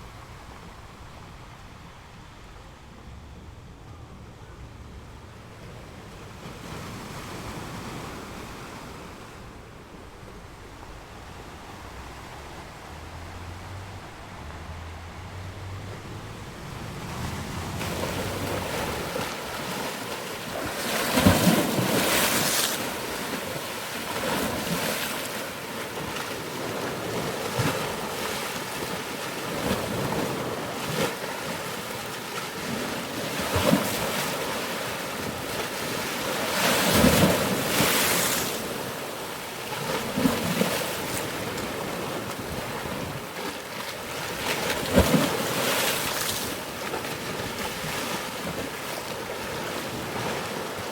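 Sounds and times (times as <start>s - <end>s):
ocean waves breaking on shore: 5.3s - 50.9s.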